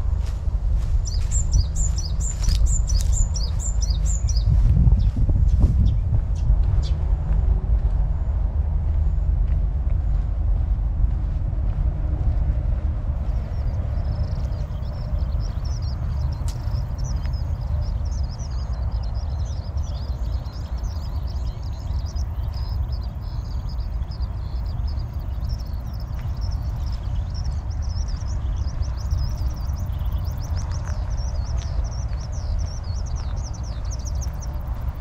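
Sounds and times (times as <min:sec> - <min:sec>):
small birds chirping: 0:00.0 - 0:07.3, 0:13.2 - 0:35.0
low rumble on microphone: 0:00.0 - 0:35.0.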